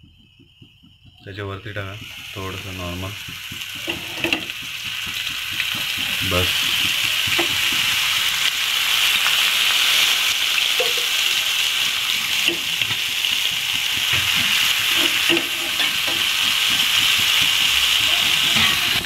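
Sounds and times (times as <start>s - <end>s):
prawns sizzling in oil: 1.3s - 19.0s.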